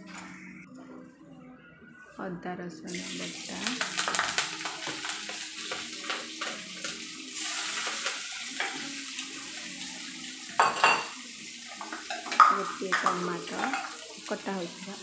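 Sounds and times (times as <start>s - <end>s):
spices sizzling in hot oil: 2.9s - 15.0s.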